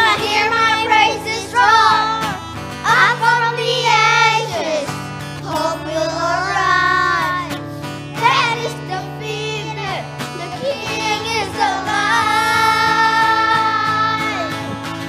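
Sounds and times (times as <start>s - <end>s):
acoustic guitar: 0.0s - 15.0s
boys singing worship song: 0.0s - 15.0s.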